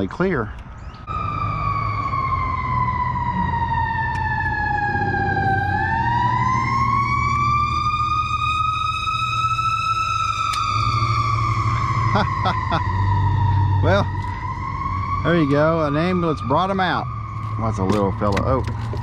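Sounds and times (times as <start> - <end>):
ambulance siren wailing: 1.0 - 19.0.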